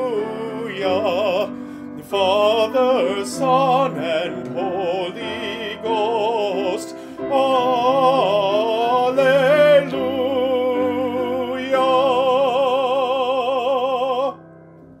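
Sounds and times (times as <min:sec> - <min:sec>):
person singing with vibrato: 0:00.0 - 0:14.5
piano accompaniment: 0:00.0 - 0:15.0.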